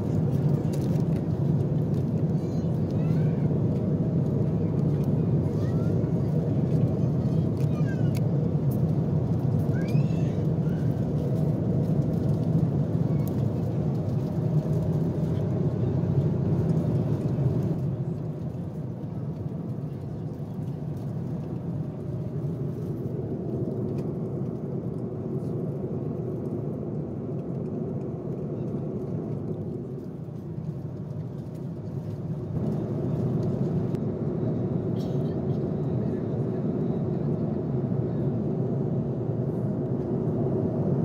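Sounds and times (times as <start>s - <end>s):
airliner cabin drone: 0.0s - 41.0s.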